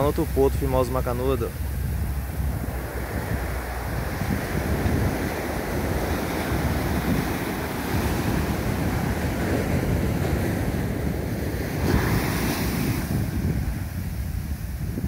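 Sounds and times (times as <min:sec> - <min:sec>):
surf breaking on a beach: 0:00.0 - 0:15.0
wind buffeting the microphone: 0:00.0 - 0:15.0.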